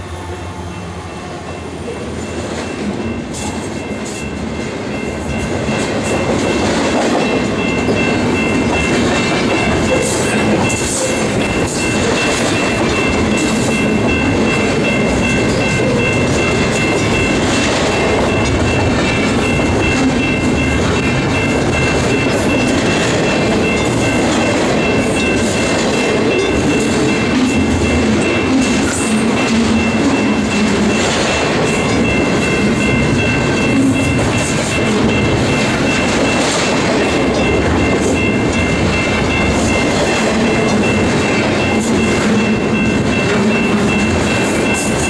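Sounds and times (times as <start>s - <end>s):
steel train wheels rolling on rails: 0.0s - 45.0s.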